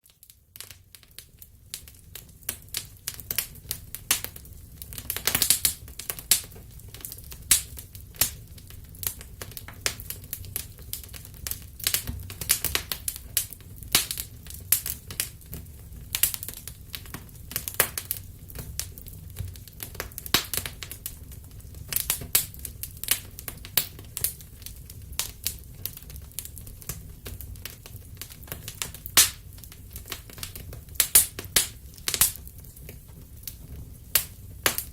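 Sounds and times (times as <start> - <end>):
fire crackling in fireplace: 0.0 - 34.9.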